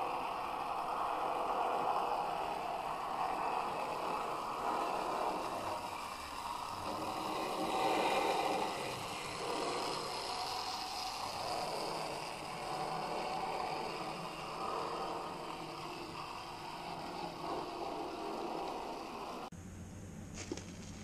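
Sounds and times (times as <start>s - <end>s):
model train wheels on rails: 0.0s - 19.5s
small electric motor: 0.0s - 19.5s.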